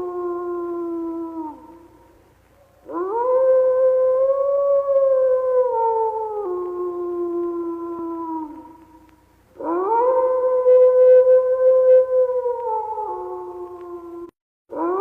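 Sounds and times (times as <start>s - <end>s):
wolf howling: 0.0s - 15.0s.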